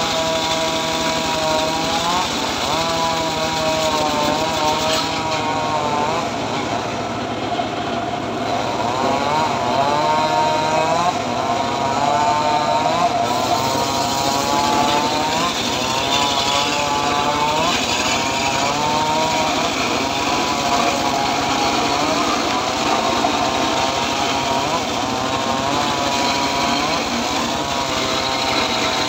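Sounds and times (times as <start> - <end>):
saw blade cutting log: 0.0 - 29.0
sawmill engine: 0.0 - 29.0.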